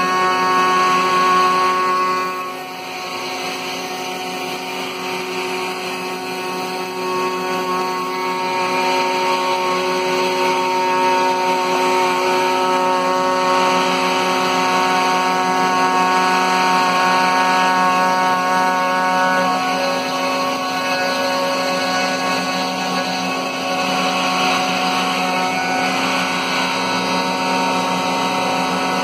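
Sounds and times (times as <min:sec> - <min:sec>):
bit cutting plywood: 0:00.0 - 0:29.0
router motor whine: 0:00.0 - 0:29.0.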